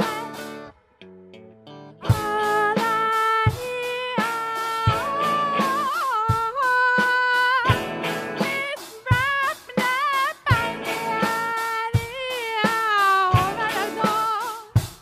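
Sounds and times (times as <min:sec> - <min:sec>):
live band music: 0:00.0 - 0:00.8, 0:02.0 - 0:15.0.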